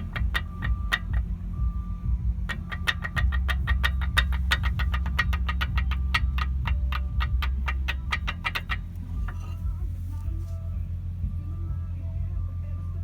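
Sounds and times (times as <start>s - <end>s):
car running hum: 0.0s - 13.0s
rapid brake ticking: 0.0s - 13.0s.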